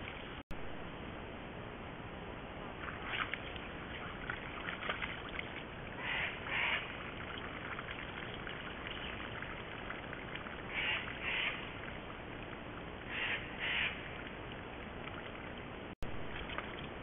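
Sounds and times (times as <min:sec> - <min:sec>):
mud and water splashing: 0:02.6 - 0:17.0.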